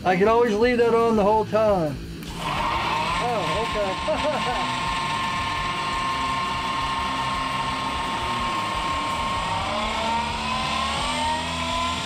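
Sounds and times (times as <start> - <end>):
electric belt grinder whining: 2.2 - 12.0.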